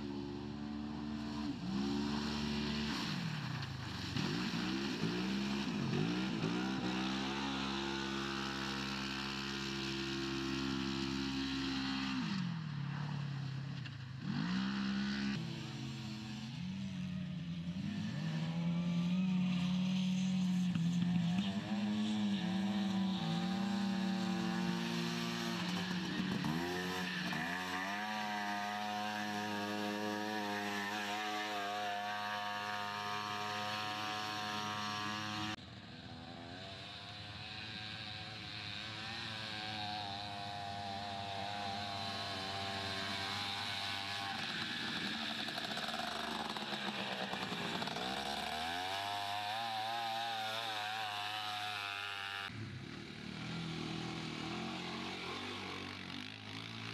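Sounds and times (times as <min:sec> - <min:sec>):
racing buggy engines revving: 0:00.0 - 0:56.9.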